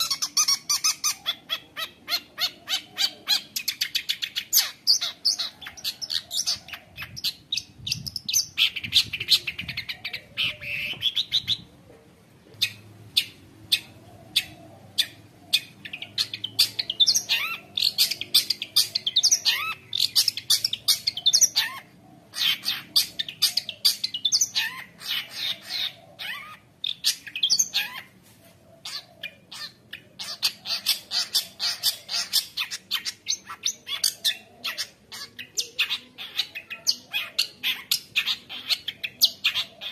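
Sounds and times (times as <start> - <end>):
bird singing chattering song: 0.0 - 11.7, 12.6 - 28.2, 28.8 - 39.9.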